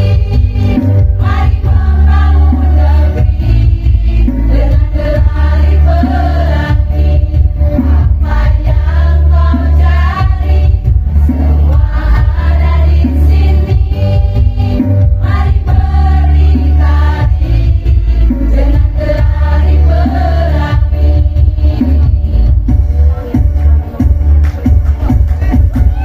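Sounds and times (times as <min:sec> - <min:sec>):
women's choir singing: 0:00.0 - 0:22.6
backing music with heavy bass: 0:00.0 - 0:26.0.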